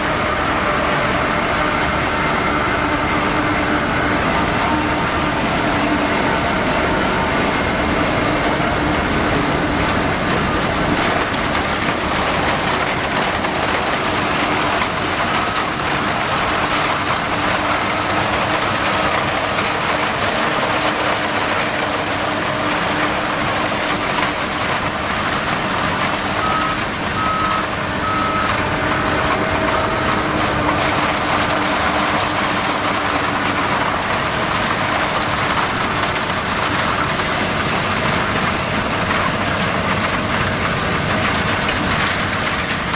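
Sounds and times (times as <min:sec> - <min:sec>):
combine harvester engine and machinery: 0:00.0 - 0:42.9.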